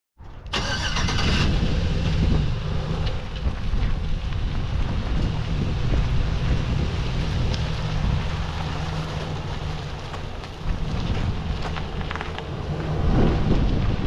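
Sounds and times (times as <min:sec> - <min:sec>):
wind buffeting microphone: 0:00.3 - 0:14.0.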